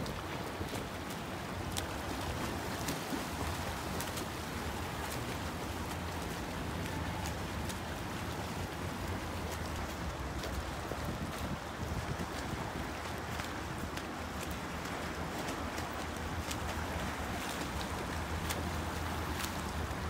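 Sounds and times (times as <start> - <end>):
pool water wash: 0.0 - 20.0
swimmer splashing: 0.0 - 20.0
wind on microphone: 0.0 - 20.0.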